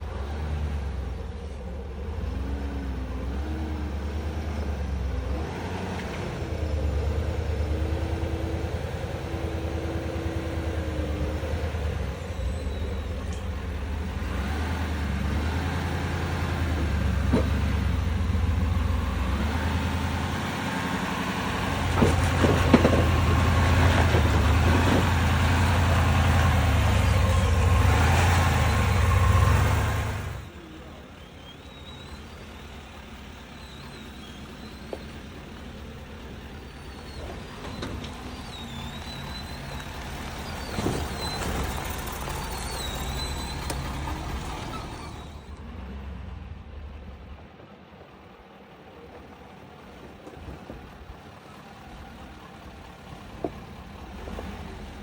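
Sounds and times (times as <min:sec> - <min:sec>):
truck engine at low throttle: 0:00.0 - 0:55.0.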